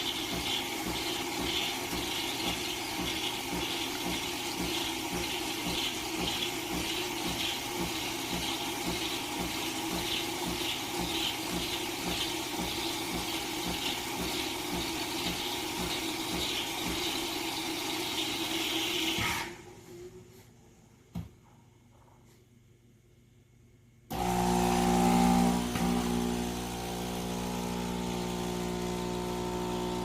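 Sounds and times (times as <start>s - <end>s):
espresso machine pump pulsing: 0.0s - 19.4s, 24.1s - 30.0s.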